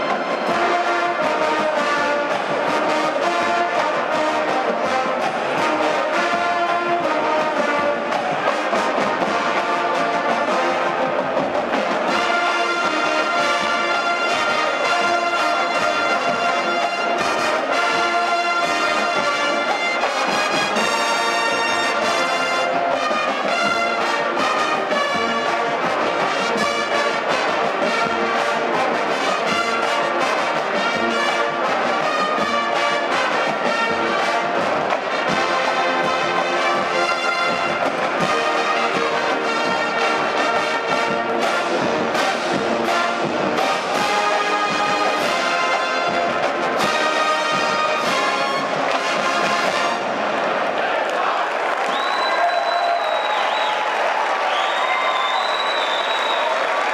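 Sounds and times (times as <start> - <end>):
marching band brass playing: 0.0 - 56.9.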